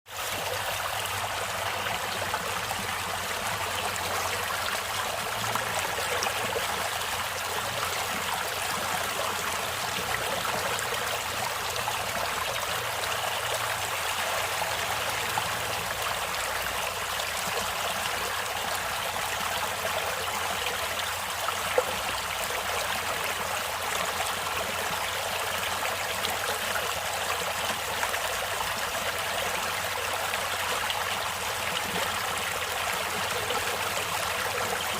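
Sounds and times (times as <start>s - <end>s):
stream water trickling: 0.1s - 34.9s.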